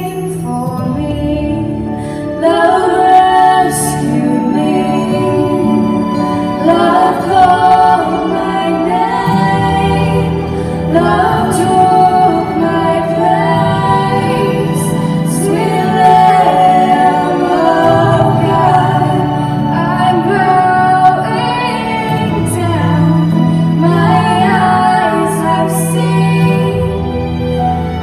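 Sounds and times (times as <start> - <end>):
instrumental backing music: 0.0 - 28.0
woman singing into a microphone: 0.0 - 28.0.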